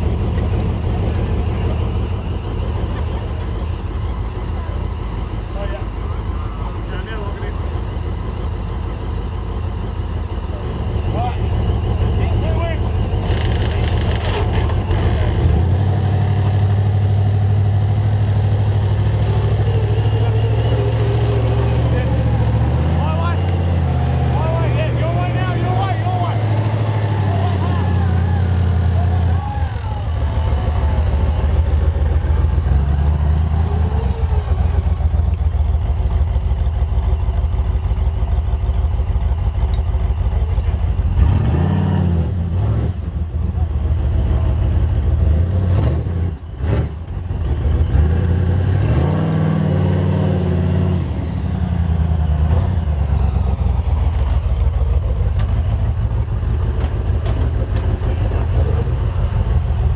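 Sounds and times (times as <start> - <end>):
engine revving off-road: 0.0 - 59.9.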